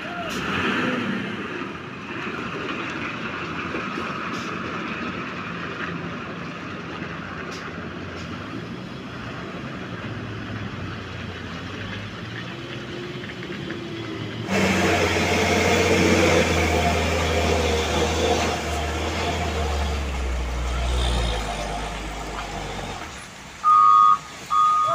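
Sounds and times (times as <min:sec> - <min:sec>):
diesel truck engine running: 0:00.3 - 0:23.7.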